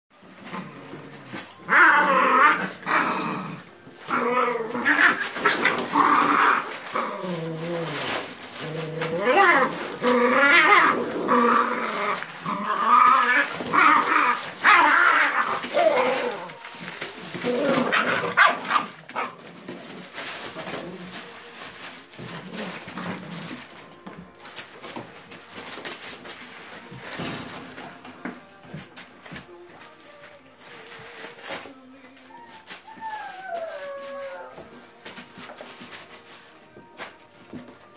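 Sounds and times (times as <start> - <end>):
paper crackling and rustling: 0.1 - 37.9
puppies growling: 0.2 - 37.9.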